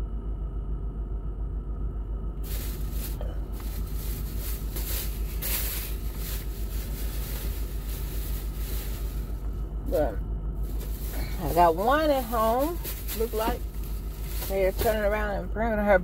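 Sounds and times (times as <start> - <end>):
car engine idling: 2.4 - 16.0.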